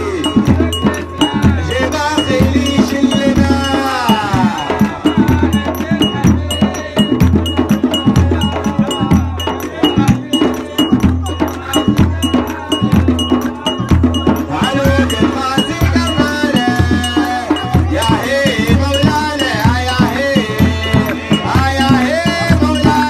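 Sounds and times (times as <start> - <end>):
deep drums beating: 0.0 - 23.0
voices singing: 0.0 - 23.0.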